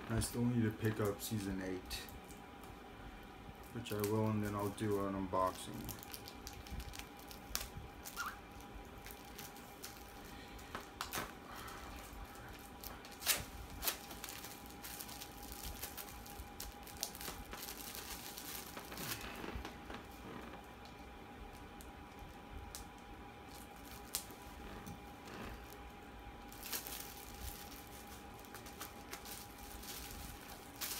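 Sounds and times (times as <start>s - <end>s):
shrink wrap crinkling and tearing: 3.6s - 30.9s.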